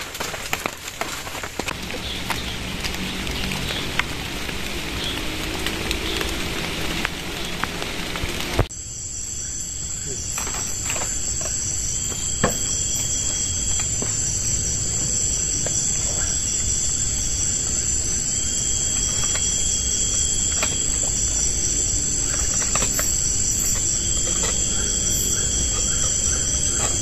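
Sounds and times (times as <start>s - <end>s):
forest insects chorus: 0.0s - 27.0s.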